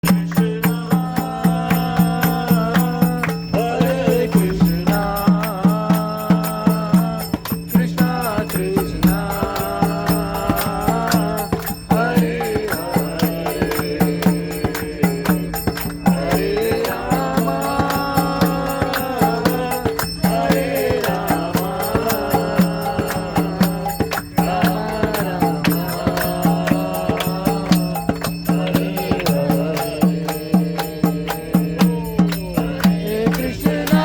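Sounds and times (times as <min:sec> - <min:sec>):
hand percussion beat: 0:00.0 - 0:34.0
voices chanting a mantra: 0:00.0 - 0:34.0.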